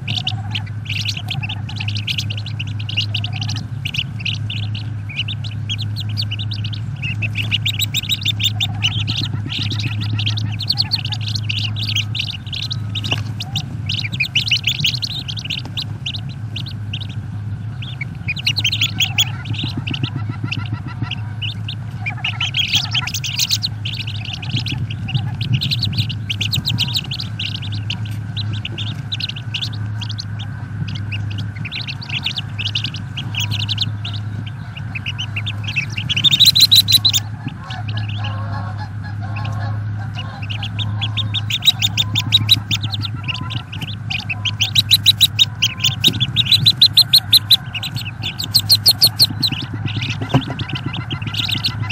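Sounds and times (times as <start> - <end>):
ducklings peeping: 0.0 - 51.9
steady low hum: 0.0 - 51.9.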